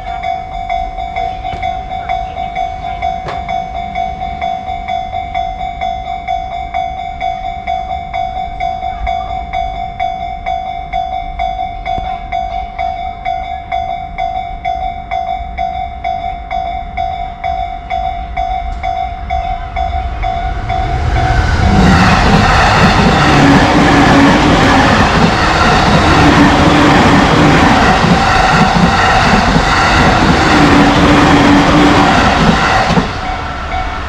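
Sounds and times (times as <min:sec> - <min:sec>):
electric train passing: 0:00.0 - 0:34.0
railroad crossing bell dinging: 0:00.0 - 0:34.0.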